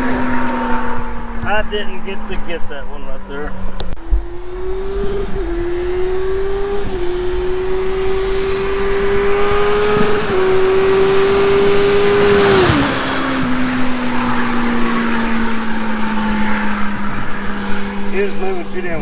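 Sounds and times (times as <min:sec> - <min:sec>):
motorcycle accelerating past: 0:00.0 - 0:19.0.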